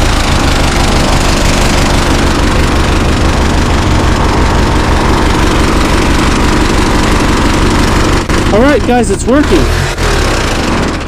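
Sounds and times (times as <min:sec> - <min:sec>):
tractor engine chugging: 0:00.0 - 0:11.0.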